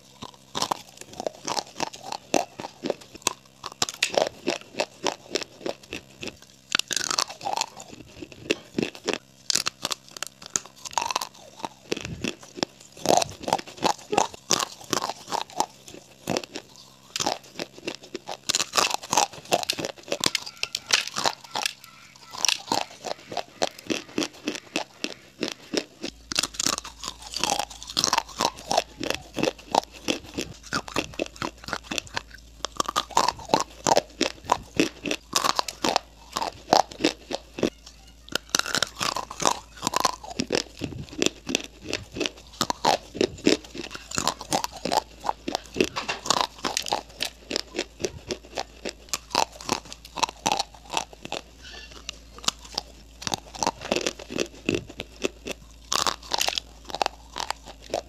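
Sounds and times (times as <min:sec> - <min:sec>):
crunching and chewing clay: 0:00.0 - 0:58.0.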